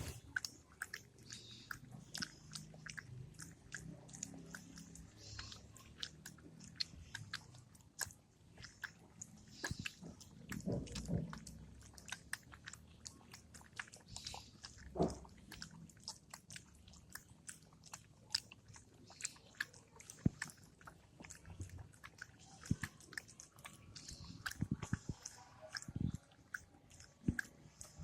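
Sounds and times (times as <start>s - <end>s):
puppy chewing: 0.0s - 28.0s.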